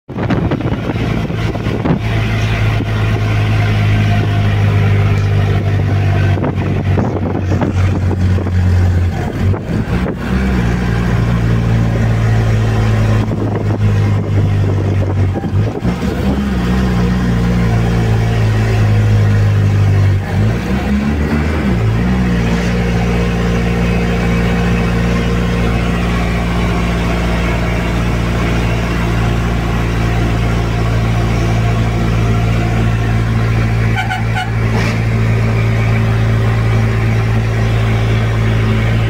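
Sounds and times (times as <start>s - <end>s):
truck diesel engine running: 0.1s - 39.0s.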